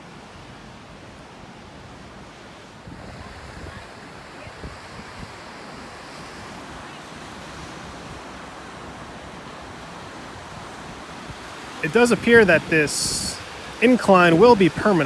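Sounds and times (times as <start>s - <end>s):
ocean surf washing on beach: 0.0s - 15.0s
wind buffeting microphone: 2.8s - 15.0s.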